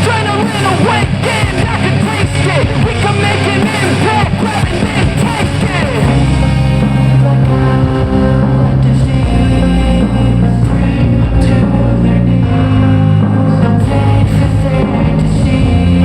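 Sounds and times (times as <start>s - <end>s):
rock music through a speaker: 0.0s - 16.0s.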